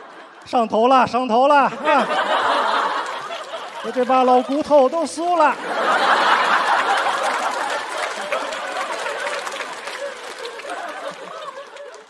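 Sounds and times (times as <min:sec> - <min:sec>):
audience laughing: 0:00.0 - 0:00.5, 0:01.6 - 0:12.0
overlapping voices: 0:01.7 - 0:12.0
audience clapping: 0:01.9 - 0:12.0.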